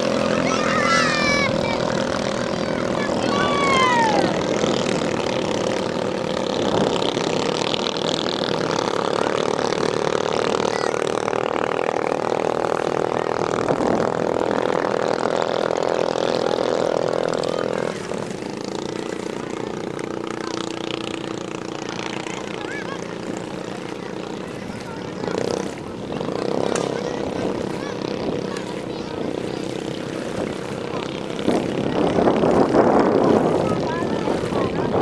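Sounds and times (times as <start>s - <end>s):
racing boat engine high revs: 0.0s - 35.0s.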